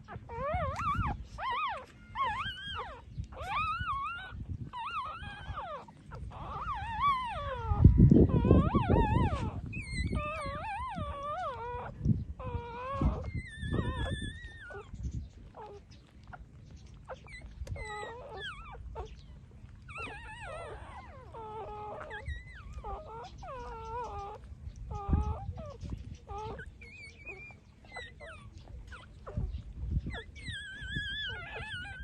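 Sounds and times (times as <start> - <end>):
puppies whining and squealing: 0.0 - 32.0.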